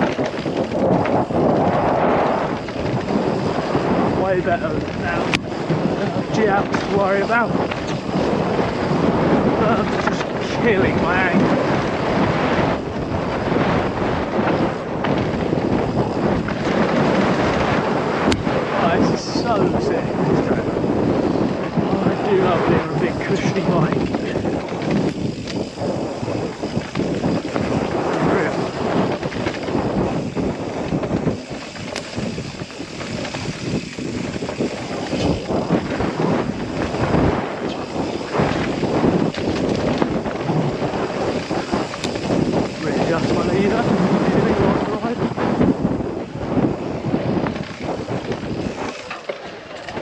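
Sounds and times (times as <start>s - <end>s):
bike tyres rumbling over dirt: 0.0s - 50.0s
wind rushing over microphone: 0.0s - 50.0s.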